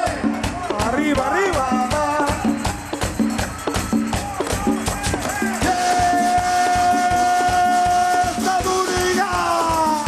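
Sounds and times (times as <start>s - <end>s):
drums and percussion beat: 0.0s - 10.0s.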